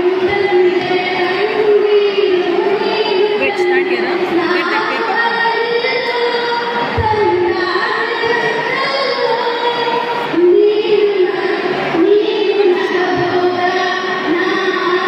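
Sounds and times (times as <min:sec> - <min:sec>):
girl singing into microphone: 0:00.0 - 0:15.0.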